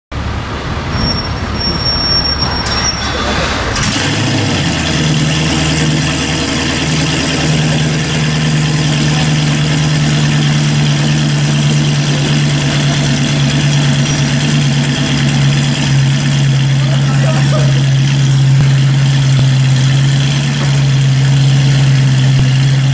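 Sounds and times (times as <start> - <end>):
engine starting and idling: 0.9 - 22.9.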